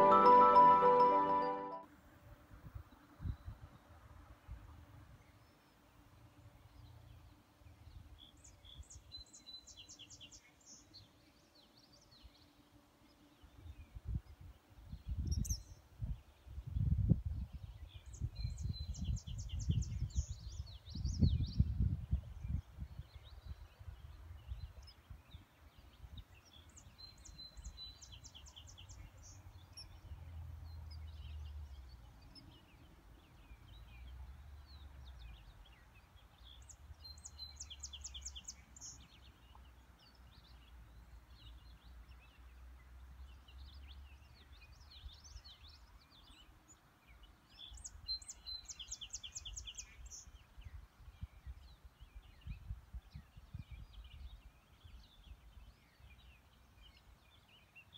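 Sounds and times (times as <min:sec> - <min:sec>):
bird song with fast trill: 0:00.0 - 0:01.7, 0:05.2 - 0:42.6, 0:43.2 - 0:57.9
songbirds singing: 0:05.2 - 0:57.9.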